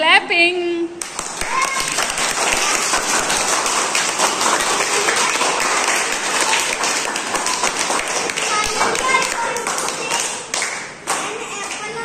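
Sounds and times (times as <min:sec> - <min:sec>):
children applauding: 0:01.0 - 0:12.0.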